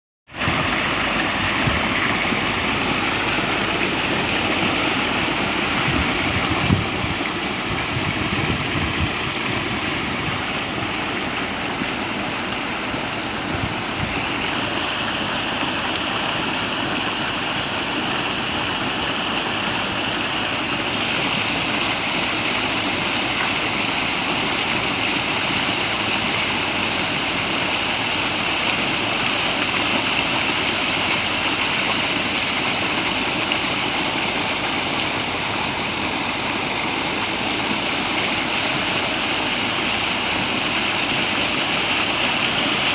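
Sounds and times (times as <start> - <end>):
water pouring from pump discharge: 0.3 - 42.9.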